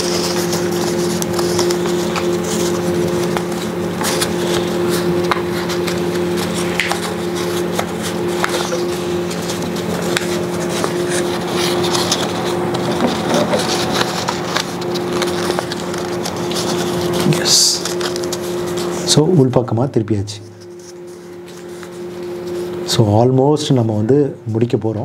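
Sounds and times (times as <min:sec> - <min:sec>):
paper crackling and rustling: 0:00.0 - 0:19.5, 0:20.4 - 0:23.8
steady hum: 0:00.0 - 0:25.0.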